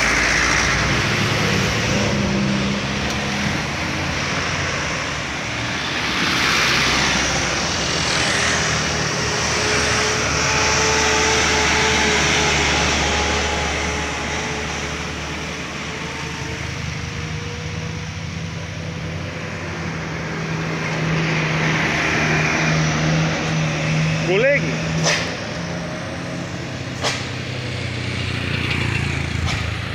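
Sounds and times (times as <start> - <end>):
coach engine passing close: 0.0 - 29.9
diesel trucks passing: 0.0 - 29.9.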